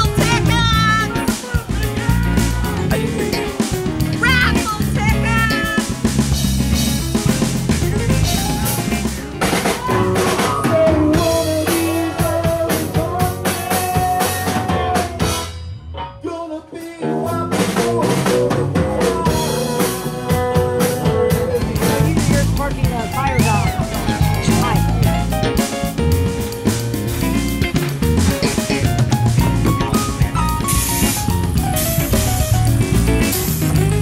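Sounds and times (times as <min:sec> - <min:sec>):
snare and bass drum strokes: 0:00.0 - 0:15.5, 0:17.6 - 0:34.0
band music: 0:00.0 - 0:34.0.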